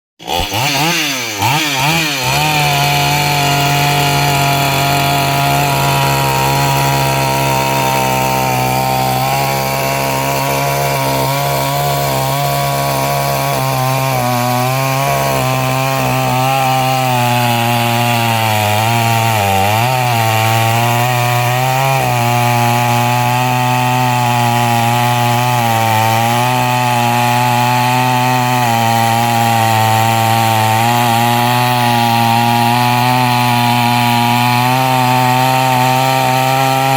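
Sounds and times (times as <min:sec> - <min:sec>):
chainsaw cutting through tree: 0:00.2 - 0:36.9.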